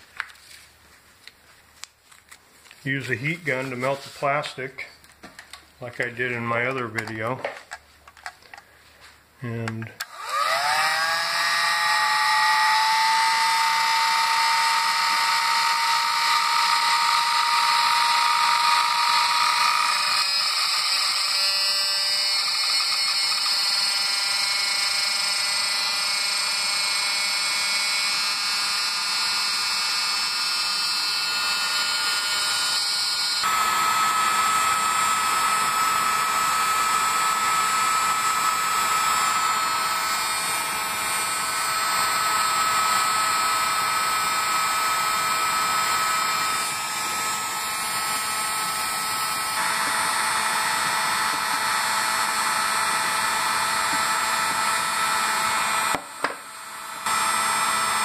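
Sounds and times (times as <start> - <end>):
steady whine: 1.2 - 58.0
heat gun fan blowing: 9.5 - 58.0.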